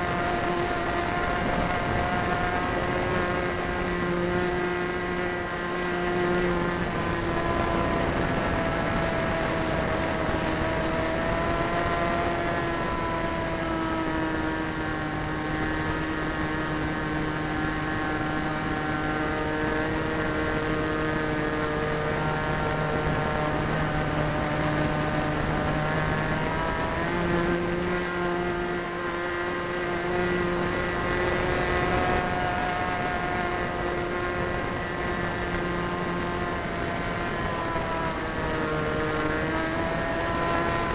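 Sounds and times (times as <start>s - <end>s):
model plane engine running: 0.0s - 40.9s.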